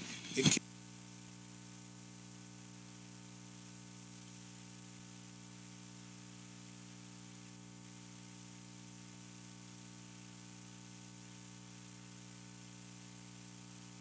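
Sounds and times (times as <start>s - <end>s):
buzzy electrical hum: 0.0s - 14.0s
constant hiss: 0.0s - 14.0s.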